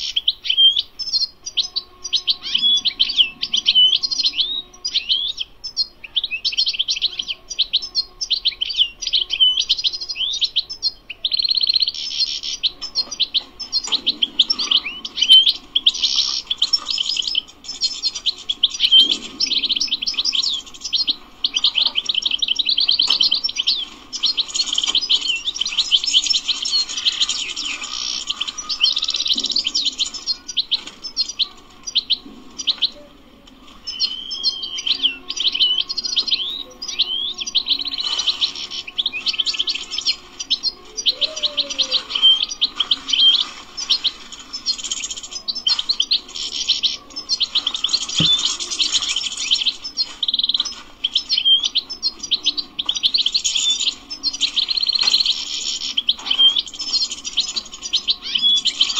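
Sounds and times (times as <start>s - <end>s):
goldfinch twittering trills: 0.0s - 32.9s, 33.8s - 58.9s.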